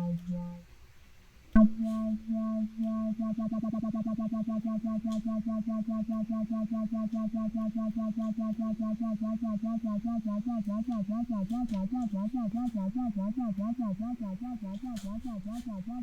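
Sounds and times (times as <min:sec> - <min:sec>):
low pulsing electronic tone: 0:00.0 - 0:00.8, 0:01.6 - 0:16.0.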